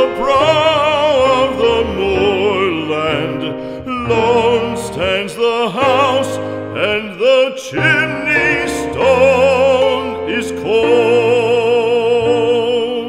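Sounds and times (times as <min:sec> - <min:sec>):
classical solo singing with vibrato: 0:00.0 - 0:13.0
instrumental accompaniment: 0:00.0 - 0:13.0.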